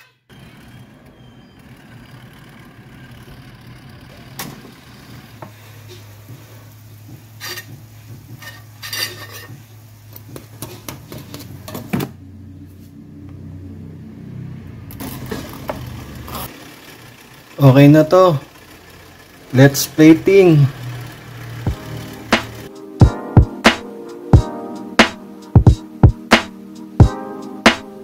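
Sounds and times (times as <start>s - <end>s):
air fryer humming: 0.3s - 27.4s.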